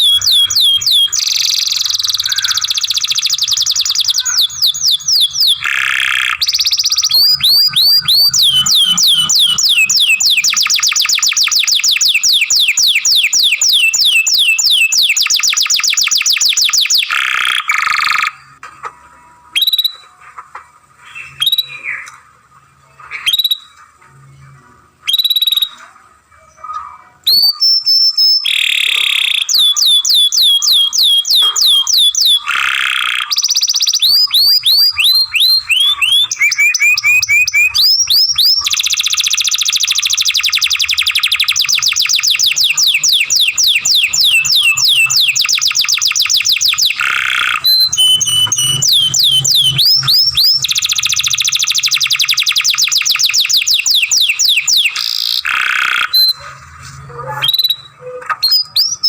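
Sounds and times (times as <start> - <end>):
canary singing: 0.0 - 18.6, 19.2 - 20.2, 21.0 - 22.1, 22.9 - 59.0.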